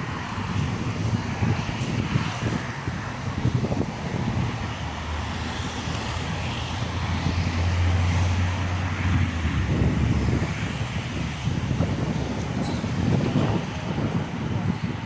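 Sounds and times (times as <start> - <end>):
street traffic: 0.0 - 15.0
vehicle engine low drone: 0.0 - 15.0.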